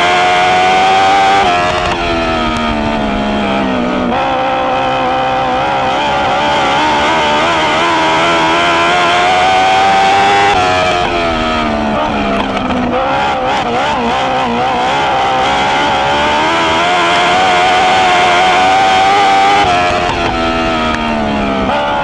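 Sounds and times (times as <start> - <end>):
motorcycle engine at racing revs: 0.0 - 22.0.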